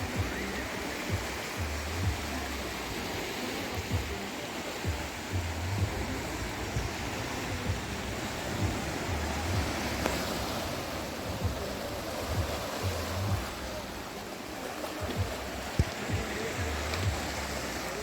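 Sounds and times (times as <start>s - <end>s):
sea surf washing onto beach: 0.0s - 18.0s.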